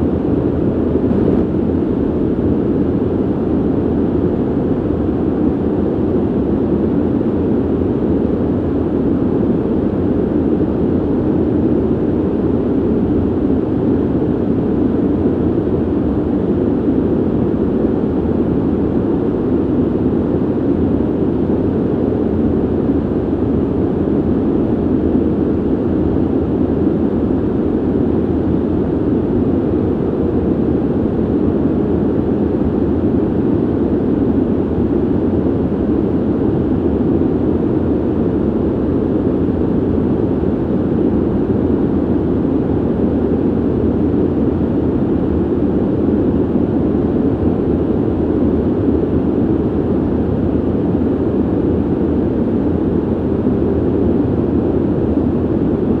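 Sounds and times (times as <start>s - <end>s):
ventilation system rush of air: 0.0s - 56.0s.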